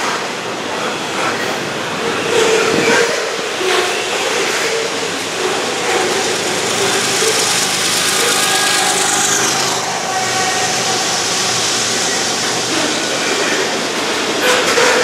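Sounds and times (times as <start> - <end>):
steel wheels grinding on rail: 0.0 - 15.0.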